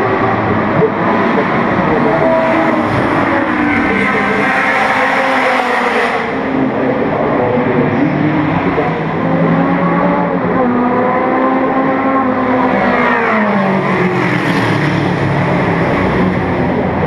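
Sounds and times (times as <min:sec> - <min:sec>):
racing car engines: 0:00.0 - 0:17.0
racing car passing by: 0:00.0 - 0:17.0.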